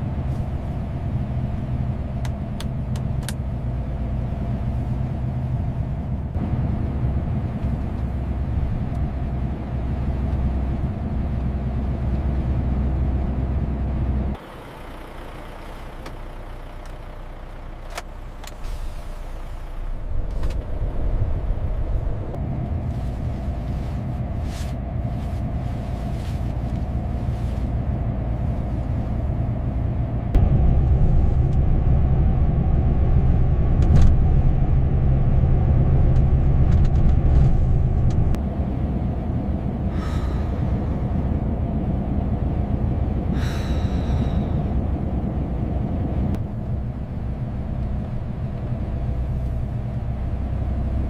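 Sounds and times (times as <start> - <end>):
truck engine droning: 0.0 - 51.0.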